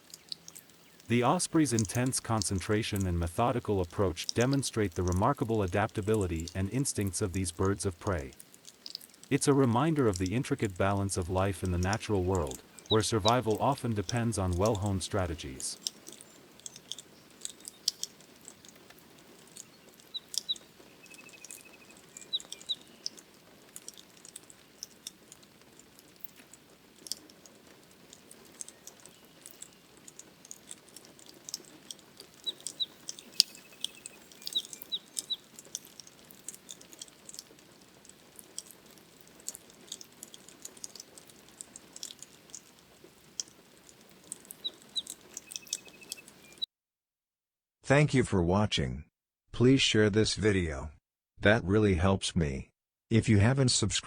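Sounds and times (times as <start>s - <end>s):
bird chirping: 0.0s - 46.6s
rain pattering: 0.0s - 46.6s.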